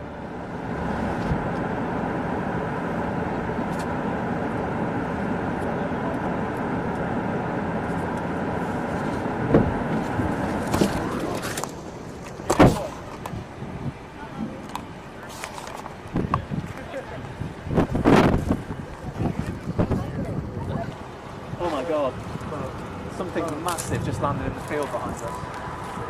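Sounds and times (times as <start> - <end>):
vehicle interior noise: 0.0 - 26.0.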